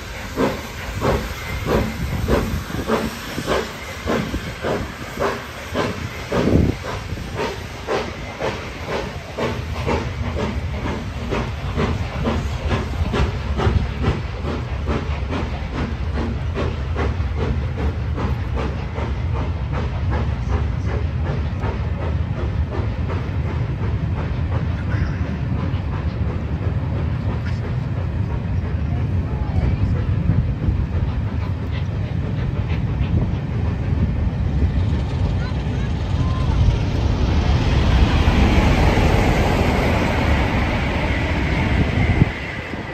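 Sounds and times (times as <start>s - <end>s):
steam locomotive exhaust beats: 0.0s - 42.9s.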